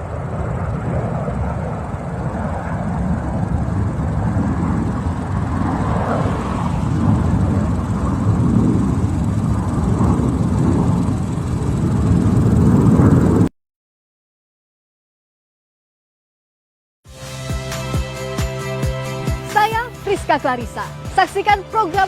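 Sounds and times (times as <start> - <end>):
jet aircraft rumble: 0.0 - 13.5, 17.1 - 22.0.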